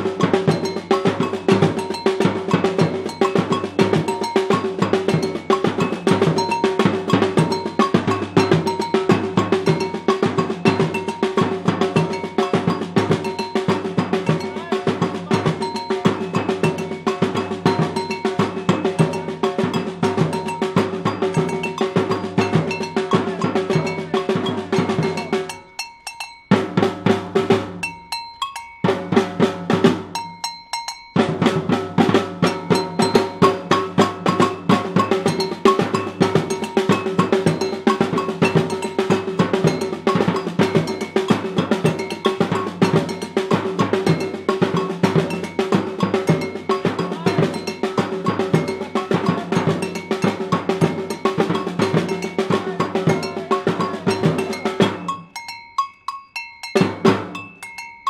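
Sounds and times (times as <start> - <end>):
drum group playing rhythm: 0.0 - 58.0.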